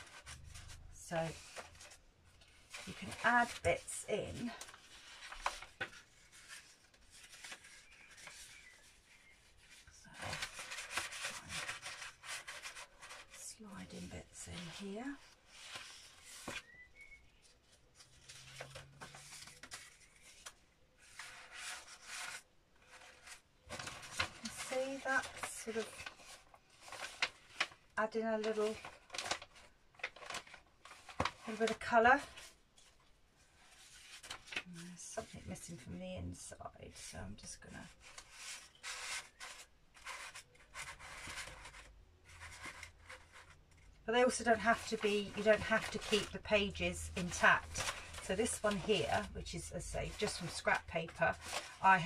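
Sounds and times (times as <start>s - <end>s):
paper rustling and crinkling: 0.0s - 52.0s.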